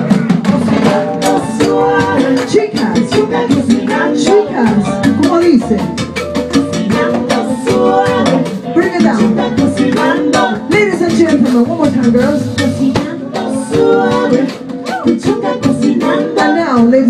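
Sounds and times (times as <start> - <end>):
live band playing latin music: 0.0 - 17.0.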